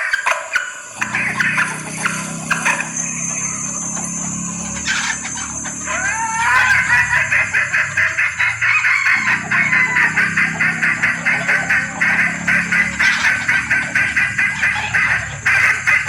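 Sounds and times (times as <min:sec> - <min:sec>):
hen clucking rapidly: 0:00.0 - 0:16.0
hen rising call: 0:00.0 - 0:16.0.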